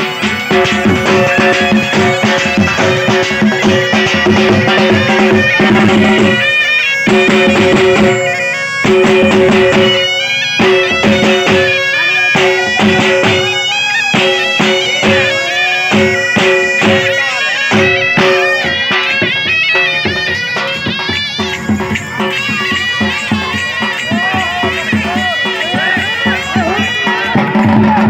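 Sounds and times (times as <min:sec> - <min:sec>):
reedy pipe melody with drone: 0:00.0 - 0:27.7
fast drum rhythm: 0:00.0 - 0:28.0.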